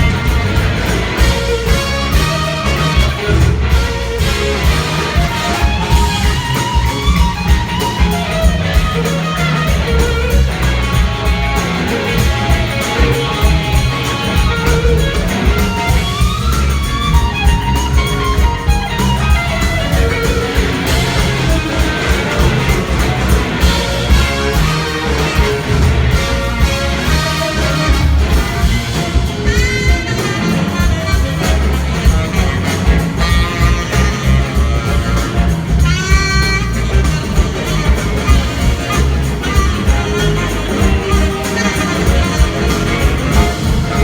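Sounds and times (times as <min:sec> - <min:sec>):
blues-rock band playing: 0:00.0 - 0:44.0
electric guitar: 0:00.0 - 0:44.0.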